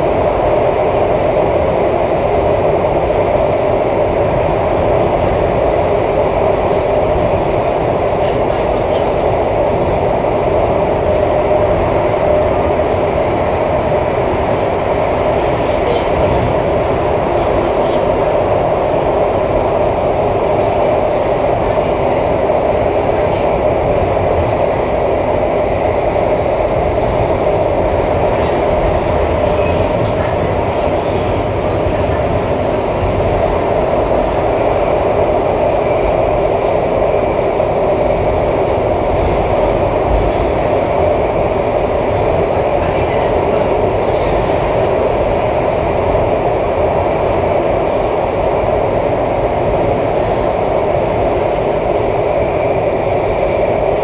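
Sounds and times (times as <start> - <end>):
metro train rumbling in tunnel: 0.0 - 54.0.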